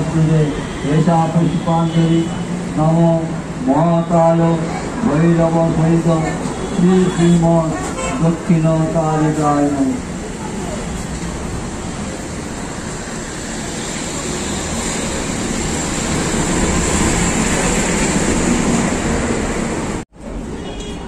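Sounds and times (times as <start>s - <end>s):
road traffic rush: 0.0s - 21.0s.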